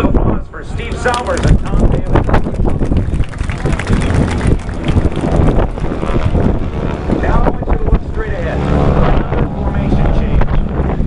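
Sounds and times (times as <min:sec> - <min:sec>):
wind buffeting microphone: 0:00.0 - 0:11.0
propeller aircraft droning overhead: 0:00.7 - 0:11.0.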